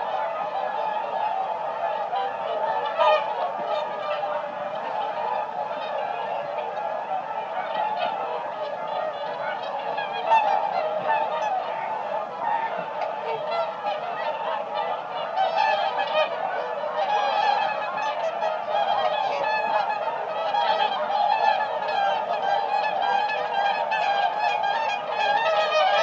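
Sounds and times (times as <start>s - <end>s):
swans honking: 0.0s - 26.0s.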